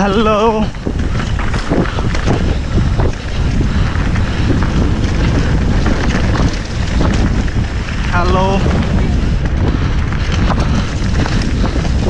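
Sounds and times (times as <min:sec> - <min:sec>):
bike rolling on dirt trail: 0:00.0 - 0:12.0
wind buffeting microphone: 0:00.0 - 0:12.0.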